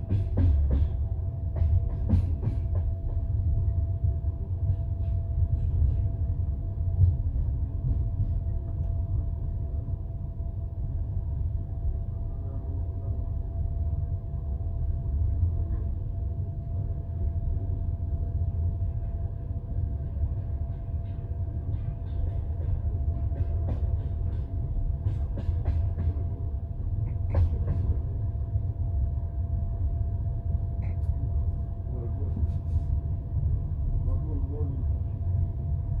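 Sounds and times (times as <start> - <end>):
train rumble inside carriage: 0.0 - 36.0.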